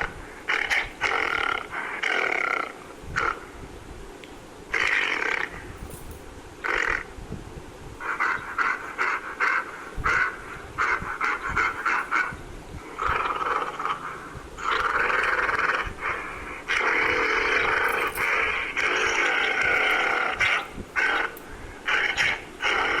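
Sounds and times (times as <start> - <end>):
gorilla calling: 0.0 - 3.6, 4.7 - 5.9, 6.6 - 7.1, 8.0 - 23.0.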